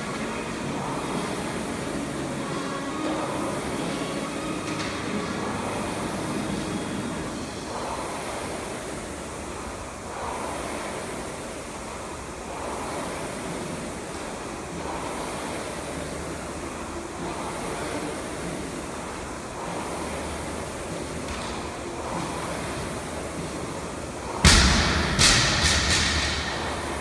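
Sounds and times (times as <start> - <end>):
rowing machine flywheel whoosh: 0.0 - 27.0.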